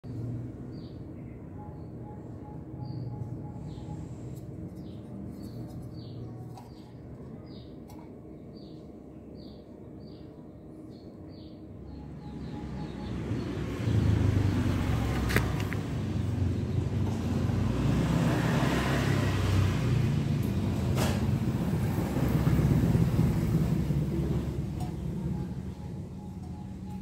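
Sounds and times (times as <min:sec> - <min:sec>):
vehicle engine running: 0:00.0 - 0:08.8, 0:11.8 - 0:27.0.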